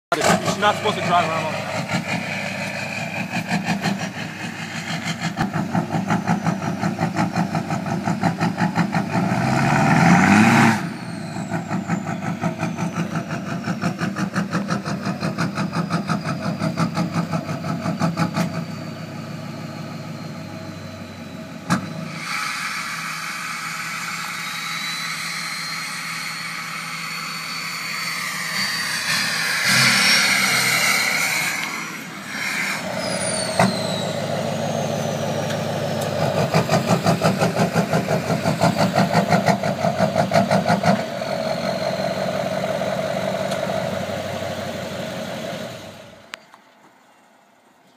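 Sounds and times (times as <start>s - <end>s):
diesel engine idling and revving: 0.0s - 47.7s
turbocharger whistle: 0.1s - 46.2s.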